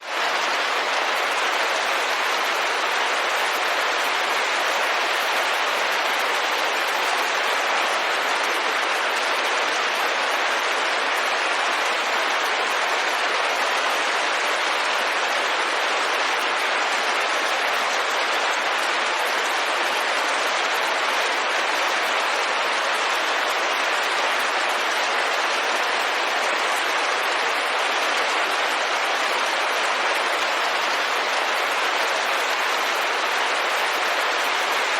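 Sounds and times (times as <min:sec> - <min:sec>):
rain on a window: 0:00.0 - 0:34.9.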